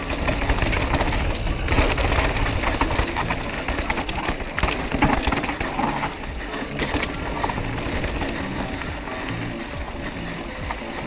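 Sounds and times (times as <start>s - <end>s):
bike chain and frame rattling: 0.0s - 11.0s
bike tyres on dirt and rock: 0.0s - 11.0s.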